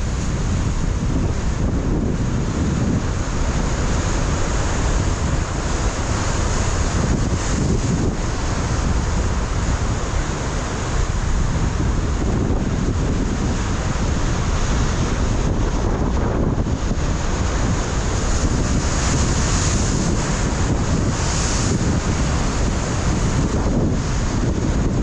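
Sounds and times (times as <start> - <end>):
surf breaking on rocks: 0.0 - 25.0
wind buffeting microphone: 0.0 - 25.0.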